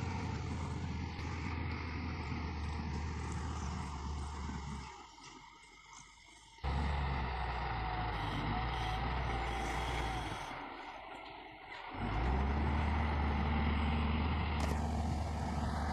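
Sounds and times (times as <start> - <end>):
heavy diesel engine droning: 0.0 - 5.3, 6.6 - 15.9.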